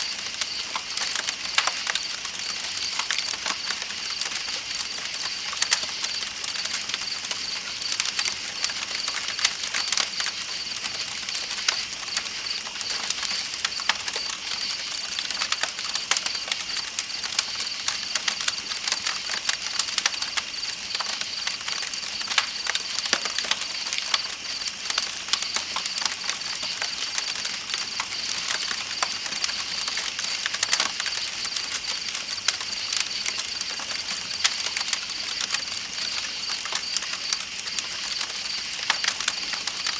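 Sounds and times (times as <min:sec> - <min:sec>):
campfire crackling and popping: 0:00.0 - 0:39.9
night insects chirring: 0:00.0 - 0:39.9.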